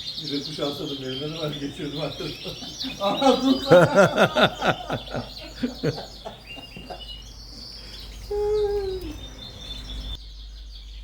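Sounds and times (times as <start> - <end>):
canaries chirping and twittering: 0.0 - 11.0.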